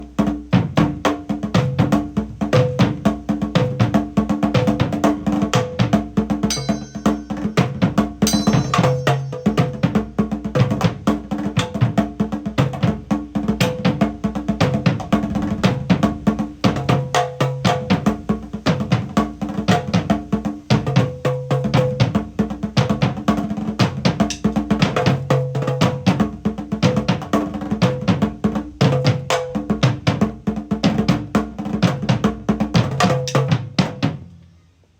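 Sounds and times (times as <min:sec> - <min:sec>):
low tom drum groove: 0:00.0 - 0:34.3.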